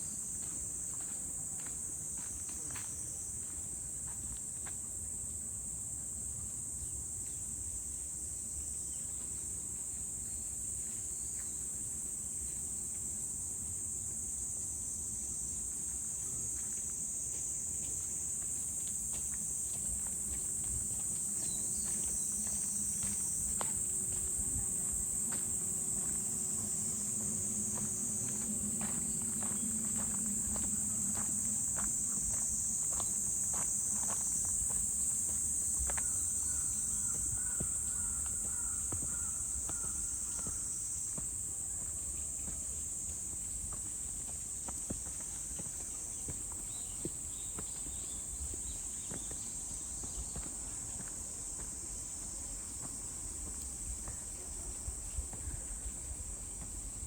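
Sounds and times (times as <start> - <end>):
insects chirring: 8.7 - 57.0.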